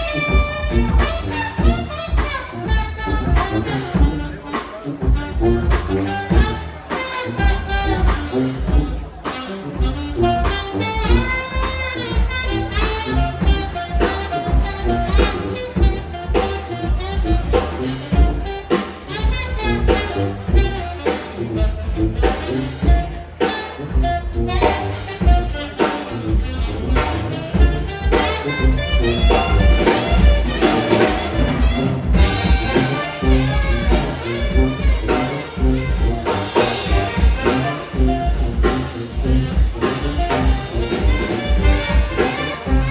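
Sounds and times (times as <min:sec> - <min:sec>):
brass band playing jazz: 0:00.0 - 0:42.9
drum kit beat: 0:00.0 - 0:42.9.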